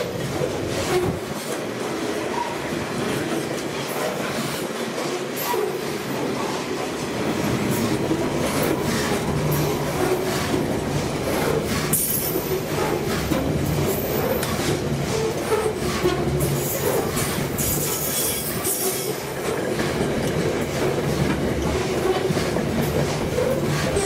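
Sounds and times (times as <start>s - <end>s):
train wheels rumbling on rails: 0.0s - 24.0s
wheels clacking over rail joints: 0.0s - 24.0s.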